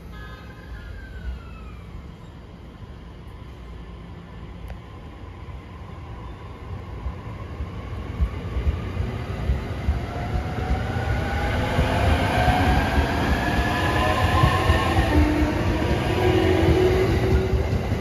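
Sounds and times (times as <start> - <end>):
wheels rumbling on rail: 0.7 - 18.0.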